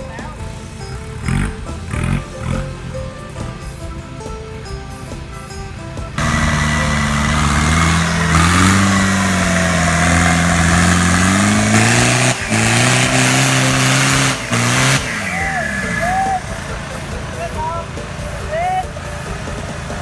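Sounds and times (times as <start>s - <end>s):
vehicle engine revving: 0.0s - 5.0s, 6.0s - 20.0s
background music: 0.0s - 20.0s.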